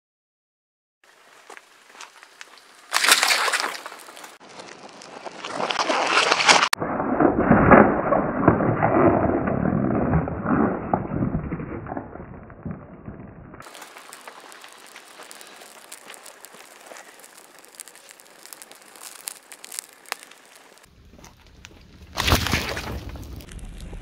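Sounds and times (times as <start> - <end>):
burning plastic crackling and popping: 1.5 - 24.0.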